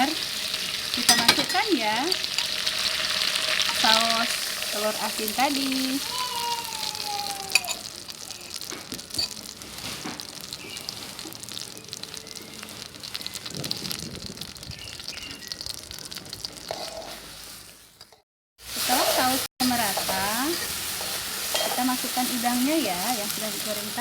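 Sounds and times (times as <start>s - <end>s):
sauce sizzling in a frying pan: 0.0s - 24.0s.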